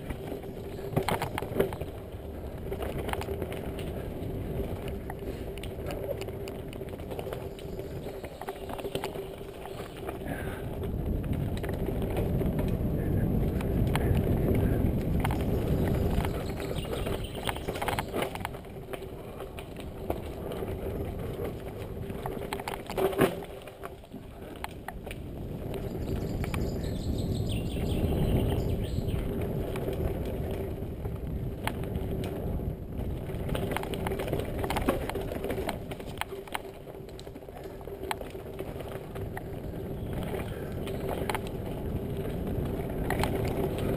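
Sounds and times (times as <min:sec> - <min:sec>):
bike rattling clicks: 0:00.0 - 0:43.9
bike tyres crunching on stones: 0:00.0 - 0:43.9.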